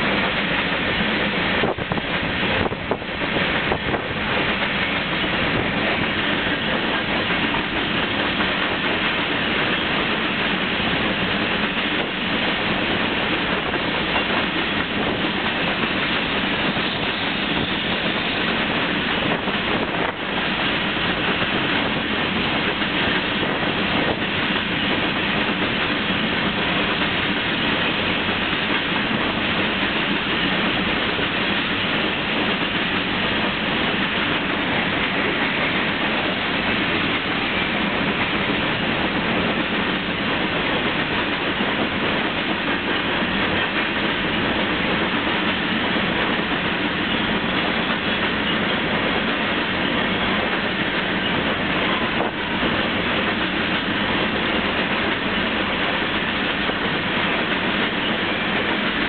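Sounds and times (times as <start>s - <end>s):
train wheels on rail: 0.0s - 59.0s.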